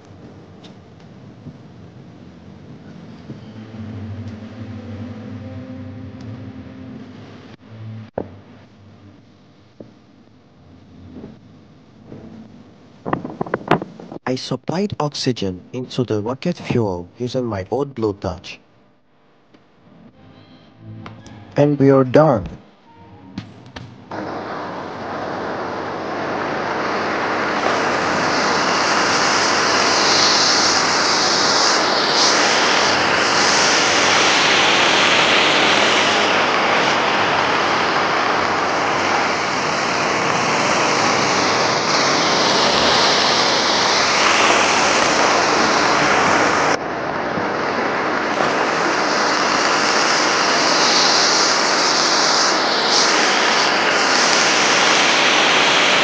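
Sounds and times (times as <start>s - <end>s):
rocket engine flame hissing: 0.0s - 9.2s, 10.6s - 15.1s, 23.4s - 56.0s.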